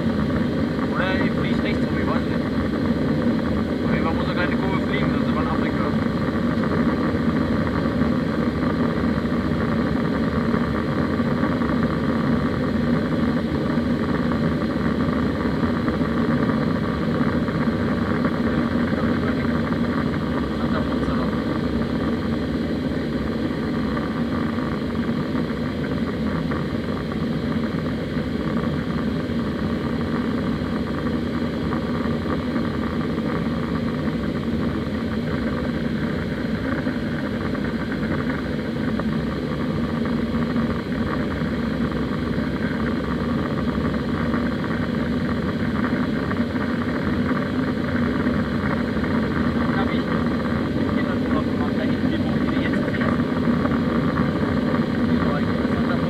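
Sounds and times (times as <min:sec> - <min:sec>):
jet engines in aircraft cabin: 0:00.0 - 0:56.0
low hum: 0:00.0 - 0:56.0.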